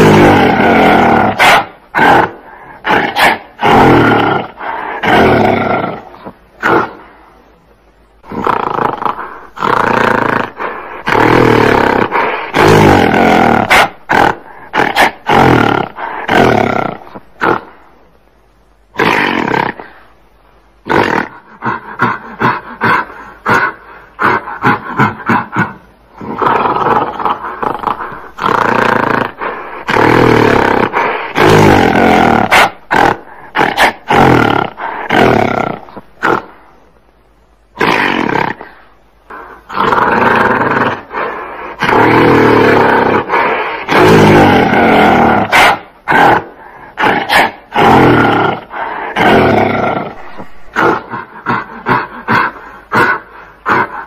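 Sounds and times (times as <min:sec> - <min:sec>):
gorilla roaring: 0:00.0 - 0:07.0, 0:08.2 - 0:17.8, 0:18.9 - 0:20.0, 0:20.8 - 0:36.6, 0:37.7 - 0:54.0.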